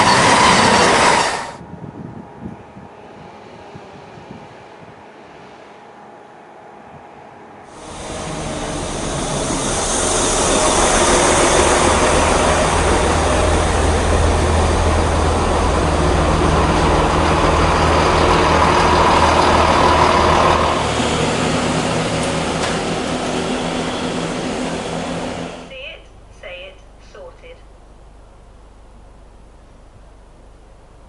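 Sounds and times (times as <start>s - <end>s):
wheels rushing on rails: 0.0s - 25.7s
diesel train engine drone: 0.0s - 31.0s.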